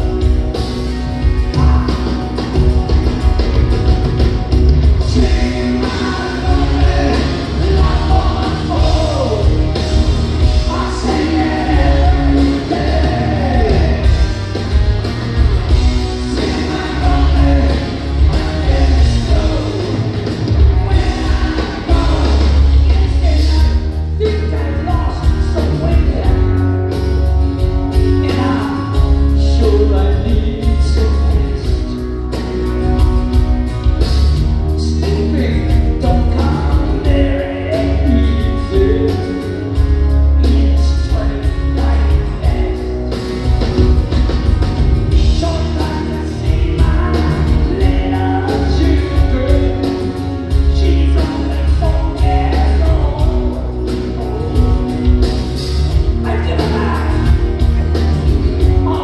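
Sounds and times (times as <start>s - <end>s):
live rock band playing: 0.0s - 59.0s
male lead singer: 0.0s - 59.0s.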